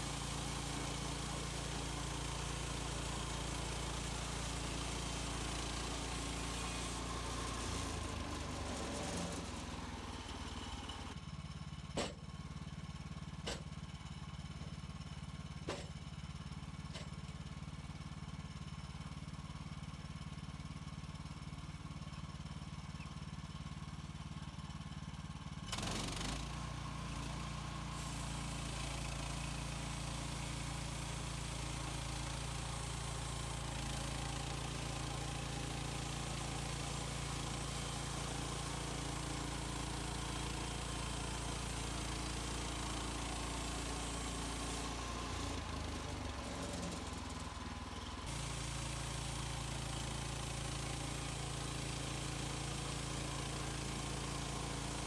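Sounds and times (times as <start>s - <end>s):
sawmill gas engine running: 0.0s - 55.0s.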